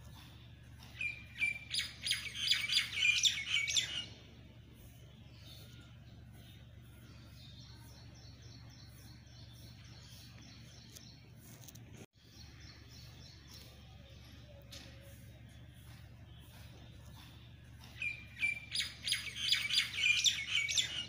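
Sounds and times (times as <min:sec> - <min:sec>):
low outdoor hum: 0:00.0 - 0:21.0
small birds chirping: 0:00.0 - 0:21.0.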